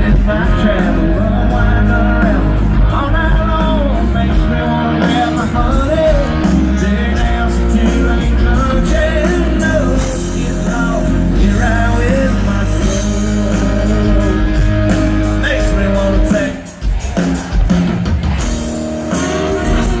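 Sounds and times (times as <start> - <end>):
rock song with singing: 0.0 - 20.0.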